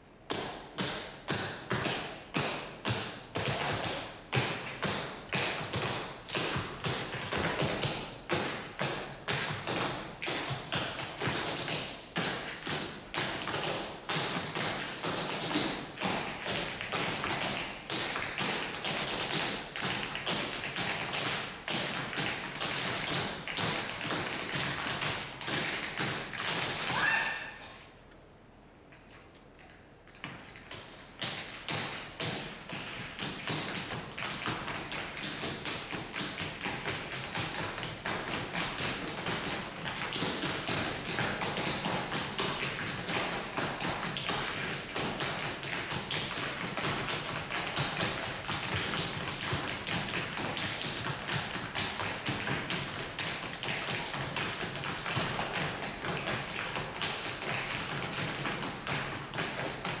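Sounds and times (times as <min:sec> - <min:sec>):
tap shoes striking floor: 0:00.3 - 0:27.2, 0:30.1 - 1:00.0.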